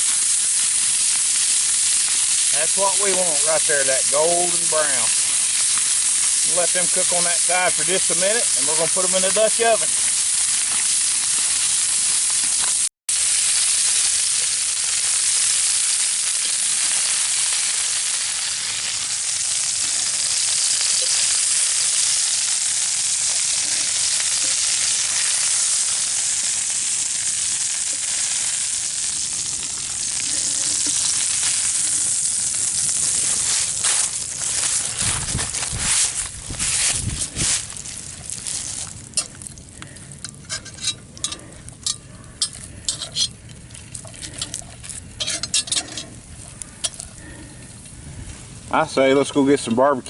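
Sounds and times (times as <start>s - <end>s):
chicken sizzling on a griddle: 0.0s - 49.6s.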